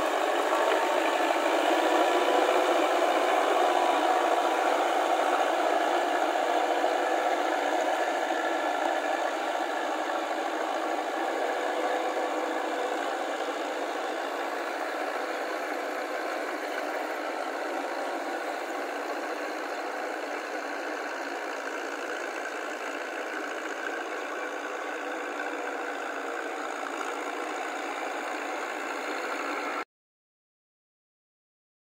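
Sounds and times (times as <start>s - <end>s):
tractor engine running: 0.0s - 29.8s.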